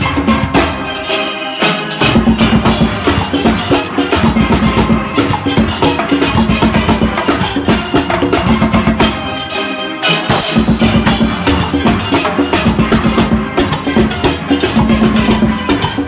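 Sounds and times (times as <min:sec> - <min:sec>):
drum kit with cymbals: 0:00.0 - 0:16.0.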